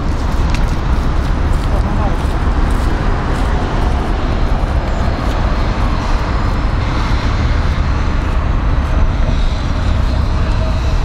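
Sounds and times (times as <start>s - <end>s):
street traffic: 0.0s - 11.0s
tram wheels rumbling on rails: 0.0s - 11.0s.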